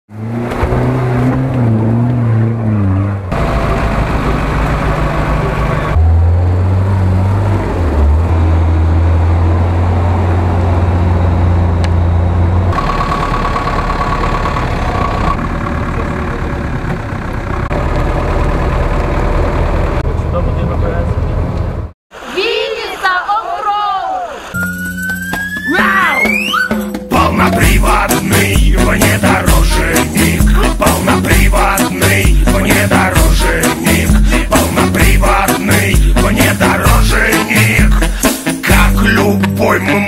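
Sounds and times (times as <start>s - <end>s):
off-road engines revving: 0.1s - 21.6s, 27.2s - 40.0s.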